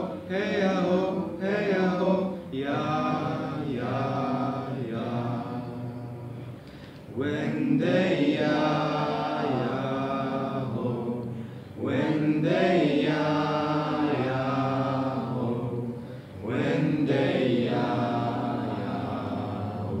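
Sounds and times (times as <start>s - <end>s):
voices chanting: 0.0s - 20.0s.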